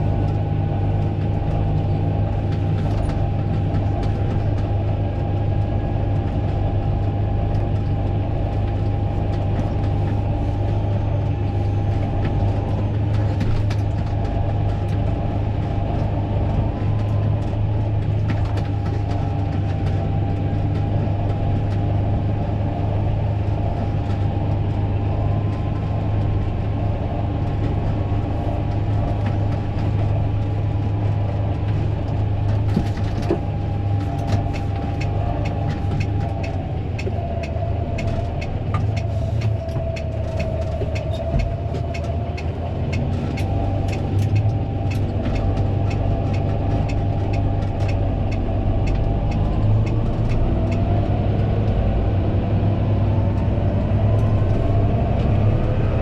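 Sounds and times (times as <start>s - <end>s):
engine whine: 0.0s - 56.0s
tractor diesel engine running: 0.0s - 56.0s.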